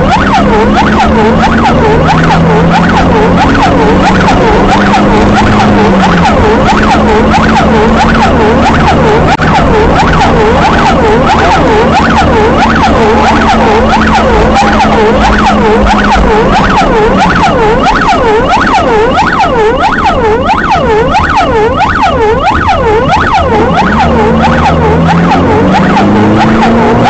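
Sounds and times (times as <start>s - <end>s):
electronic siren wailing: 0.0s - 27.0s
engine drone: 0.0s - 27.0s.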